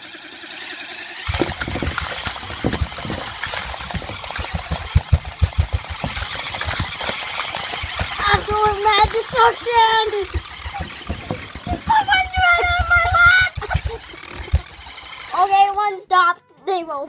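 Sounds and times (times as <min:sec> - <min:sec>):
vibrating motor buzzing: 0:00.0 - 0:15.8
toys thumping and knocking: 0:01.2 - 0:15.5.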